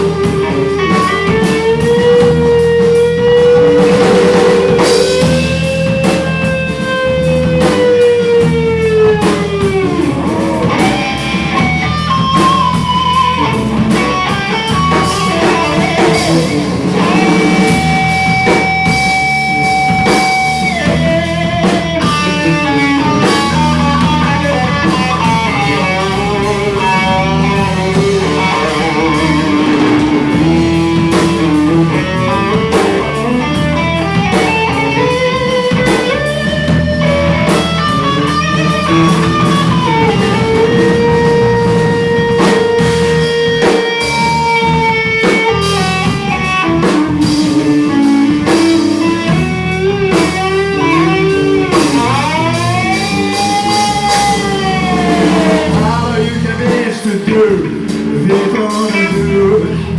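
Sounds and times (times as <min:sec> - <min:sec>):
bending guitar lead: 0:00.0 - 0:59.9
live rock band playing: 0:00.0 - 0:59.9.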